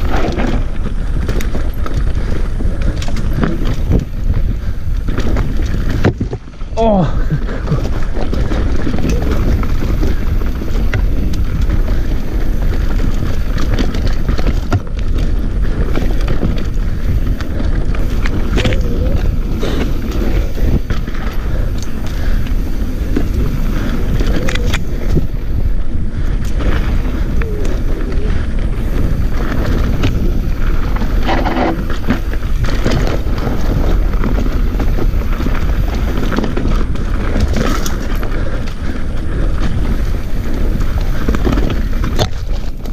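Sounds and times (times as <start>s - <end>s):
bike frame and chain rattling: 0.0s - 42.9s
bike tyres rolling over dirt and rocks: 0.0s - 42.9s
wind buffeting microphone: 0.0s - 42.9s.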